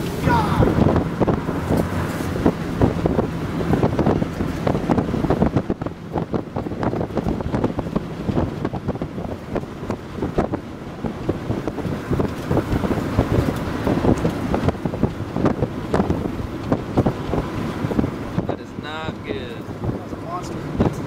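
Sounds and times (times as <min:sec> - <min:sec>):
gusty wind buffeting microphone: 0:00.0 - 0:21.0.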